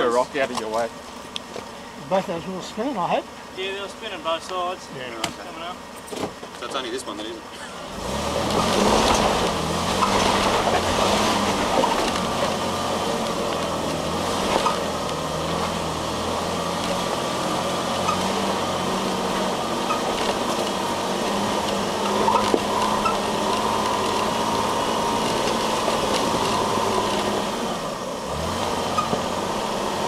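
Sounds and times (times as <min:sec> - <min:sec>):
engine pulling at low revs: 0:00.0 - 0:30.0.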